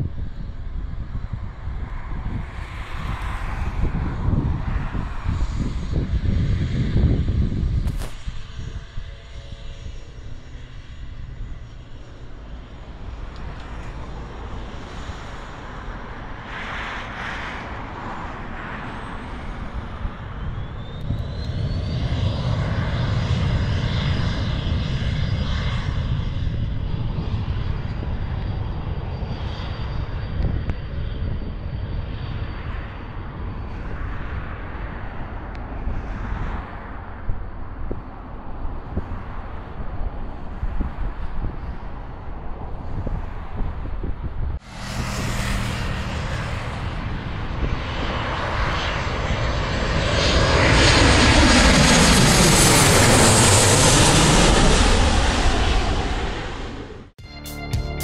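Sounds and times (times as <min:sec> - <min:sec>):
jet engine rumble: 0:00.0 - 0:57.2
high jet engine whine: 0:00.0 - 0:58.0.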